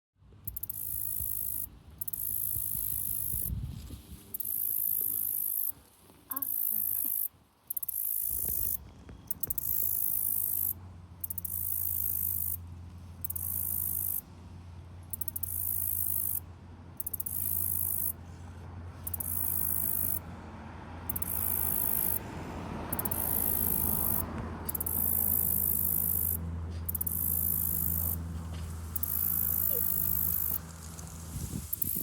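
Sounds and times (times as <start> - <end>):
insect buzzing stridulation: 0.4 - 18.2, 19.0 - 20.3, 21.0 - 32.0.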